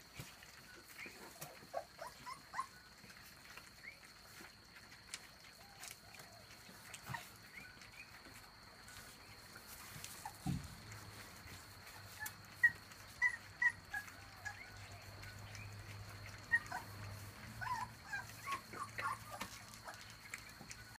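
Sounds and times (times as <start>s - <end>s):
puppies whimpering and yipping: 0.0s - 21.0s.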